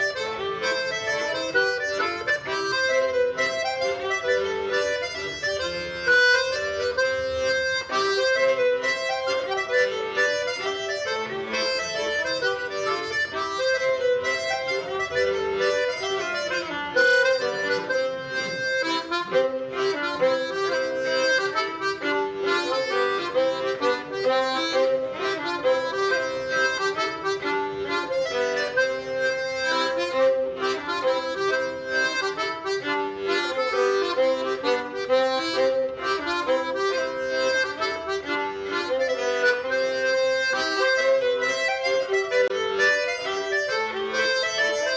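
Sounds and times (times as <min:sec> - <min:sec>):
folk dance music with reed melody: 0:00.0 - 0:44.9.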